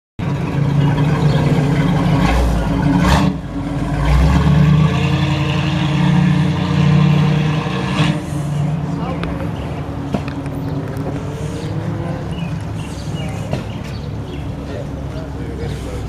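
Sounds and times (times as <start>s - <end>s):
vehicle engine running: 0.2s - 16.0s.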